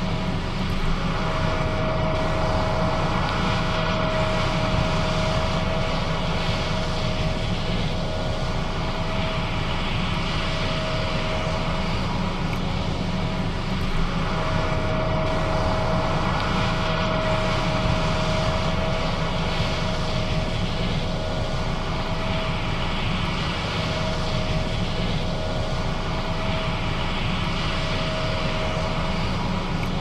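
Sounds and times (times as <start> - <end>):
combine engine drone: 0.0 - 30.0
steady whine: 0.0 - 30.0.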